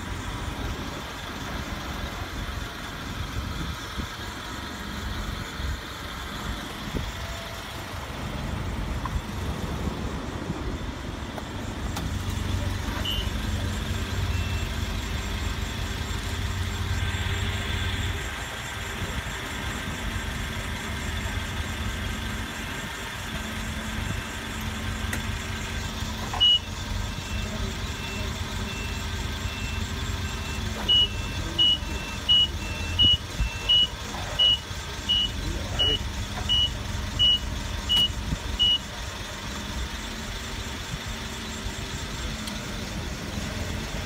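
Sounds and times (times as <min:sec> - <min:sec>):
forklift engine humming: 0:00.0 - 0:44.0
forklift warning beeps: 0:03.4 - 0:09.0, 0:12.3 - 0:43.0.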